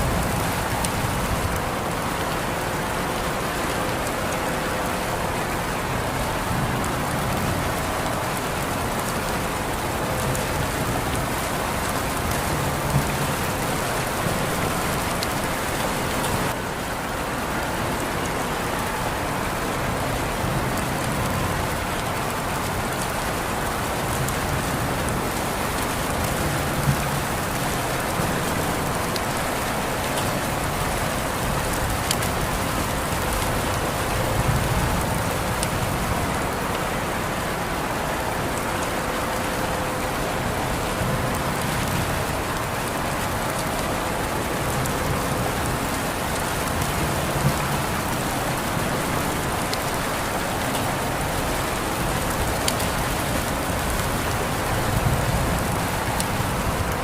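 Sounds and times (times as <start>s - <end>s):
sharp raindrops ticking: 0.0s - 57.0s
steady rain falling: 0.0s - 57.0s.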